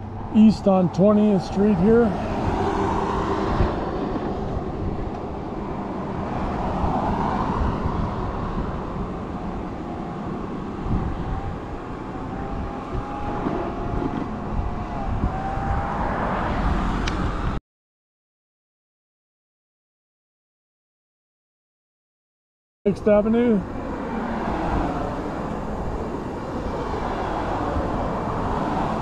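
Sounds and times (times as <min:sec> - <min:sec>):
cars passing: 0:00.0 - 0:17.6, 0:22.9 - 0:29.0.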